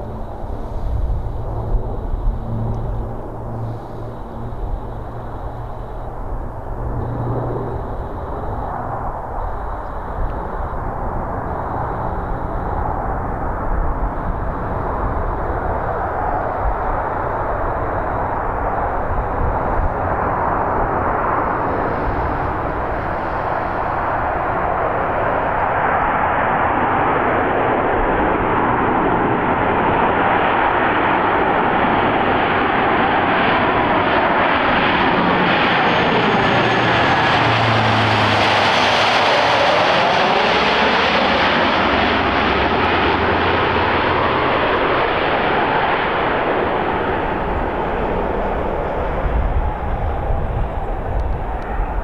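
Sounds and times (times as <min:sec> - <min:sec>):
turboprop aircraft droning overhead: 0:00.0 - 0:52.0.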